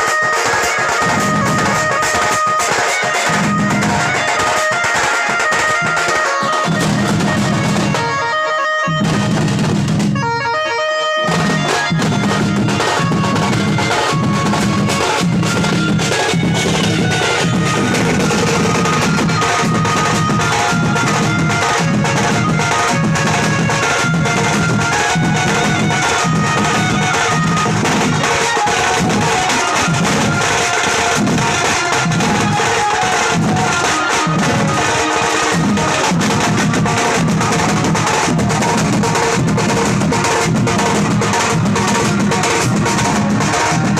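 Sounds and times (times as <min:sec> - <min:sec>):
heavy drumming: 0:00.0 - 0:43.9
sustained melody line: 0:00.1 - 0:43.9.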